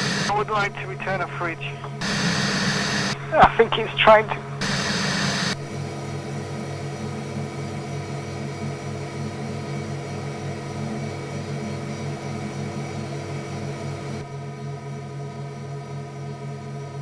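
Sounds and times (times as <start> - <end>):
low throbbing hum: 0.0 - 14.3.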